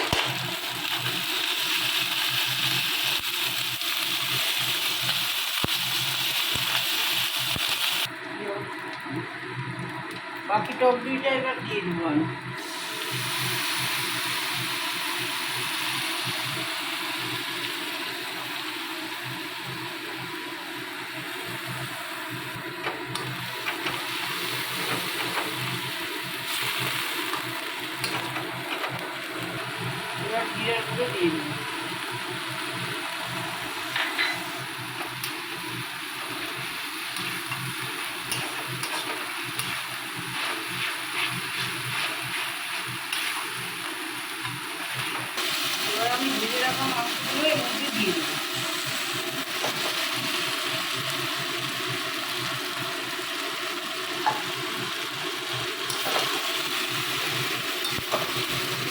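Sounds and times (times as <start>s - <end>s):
paste sizzling in hot oil: 0.0s - 8.2s, 12.4s - 58.9s.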